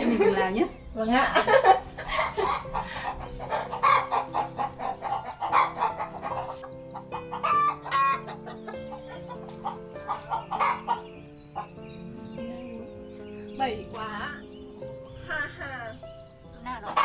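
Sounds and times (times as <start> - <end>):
chickens clucking: 0.0 - 15.2, 15.9 - 17.0
soft background music: 0.0 - 17.0.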